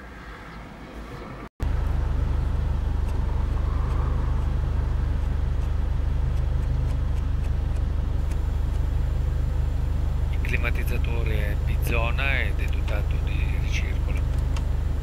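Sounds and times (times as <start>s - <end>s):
car engine humming: 1.6s - 15.0s.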